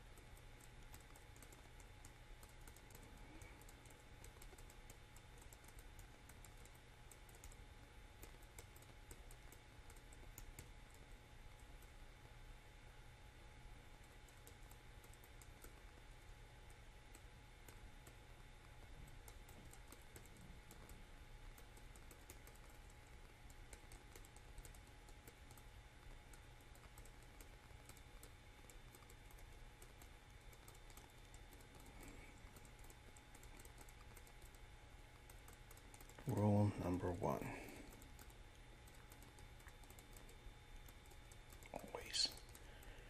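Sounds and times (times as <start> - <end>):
typing on computer keyboard: 0.0 - 12.0, 14.0 - 16.1, 16.7 - 43.0.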